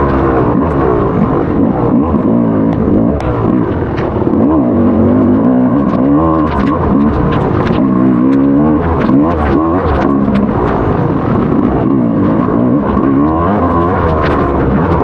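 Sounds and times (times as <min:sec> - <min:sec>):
dirt bike engine revving: 0:00.0 - 0:15.0
sharp clicks: 0:02.6 - 0:15.0.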